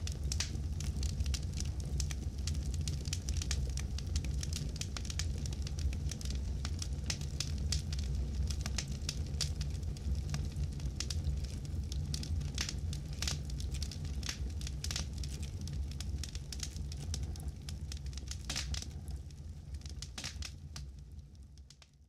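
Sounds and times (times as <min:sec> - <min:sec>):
burning wood crackling and popping: 0:00.0 - 0:22.0
campfire flames rumbling: 0:00.0 - 0:22.0.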